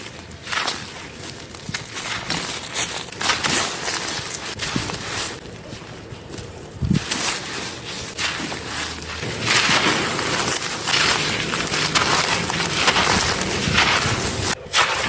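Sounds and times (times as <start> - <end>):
brittle chunks being crushed: 0.0 - 15.0.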